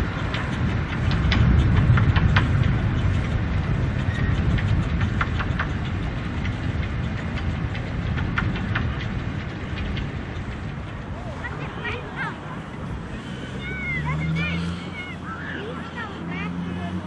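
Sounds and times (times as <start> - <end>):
train wheels rumbling on track: 0.0 - 17.0
wheels clicking over rail joints: 0.0 - 17.0.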